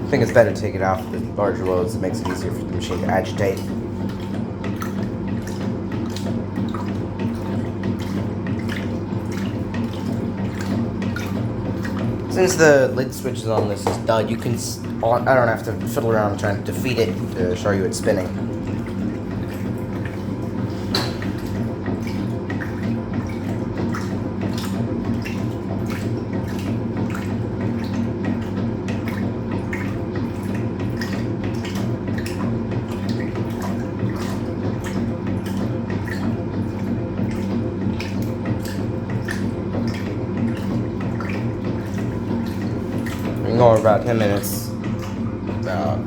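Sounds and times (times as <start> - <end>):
washing machine motor hum: 0.0 - 46.0
water splashing in drum: 0.0 - 46.0.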